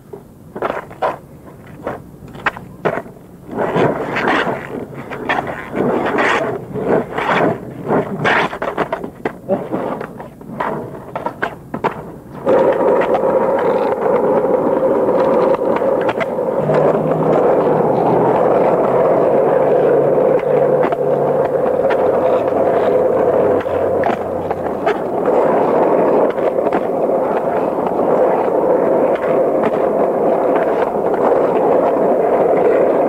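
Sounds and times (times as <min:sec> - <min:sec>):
skateboard clacks: 0:00.0 - 0:33.0
skateboard wheels rolling on asphalt: 0:00.0 - 0:33.0.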